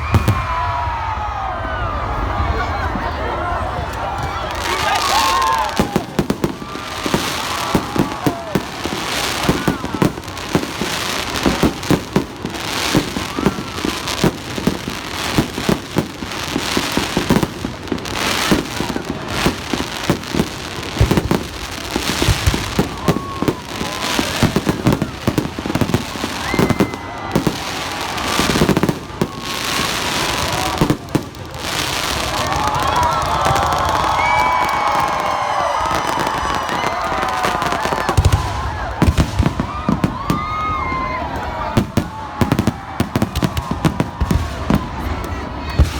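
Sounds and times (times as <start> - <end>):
crowd voices: 0.0 - 45.9
fireworks bangs and crackles: 0.0 - 45.9.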